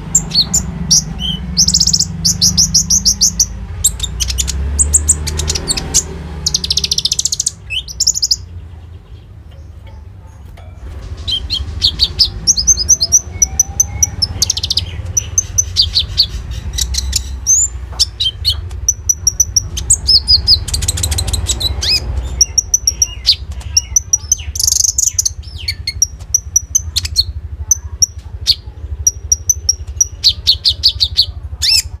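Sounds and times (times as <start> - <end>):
songbird singing chirps and trills: 0.0 - 32.0.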